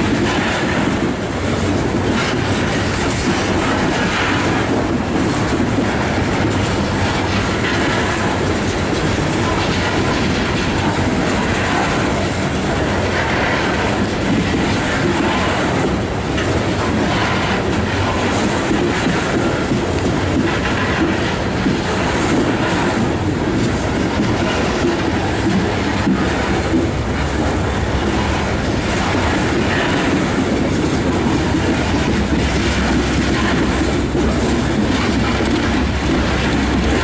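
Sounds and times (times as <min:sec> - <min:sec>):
clicks over rail joints: 0:00.0 - 0:37.0
steel wheels rumbling on rail: 0:00.0 - 0:37.0.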